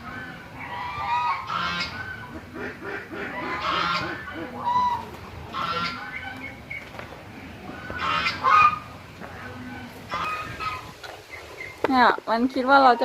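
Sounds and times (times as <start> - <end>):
geese honking: 0.0 - 11.9.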